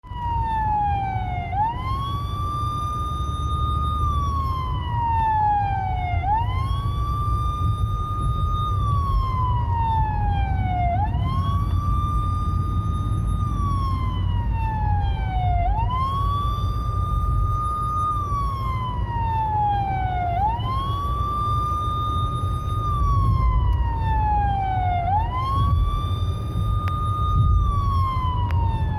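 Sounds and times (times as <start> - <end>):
police siren wailing: 0.0 - 28.9
low rumble: 4.1 - 28.9.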